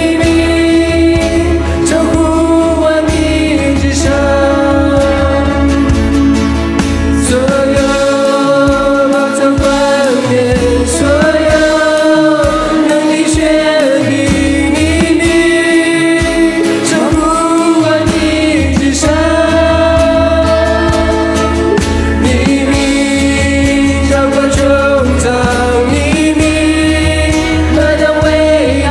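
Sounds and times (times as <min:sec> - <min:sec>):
band accompaniment: 0:00.0 - 0:28.9
voices singing held notes: 0:00.0 - 0:28.9.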